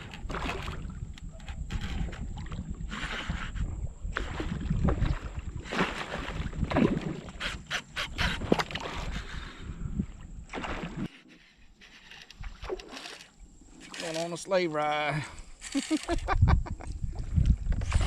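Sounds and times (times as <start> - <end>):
water sloshing and splashing: 0.0 - 14.5.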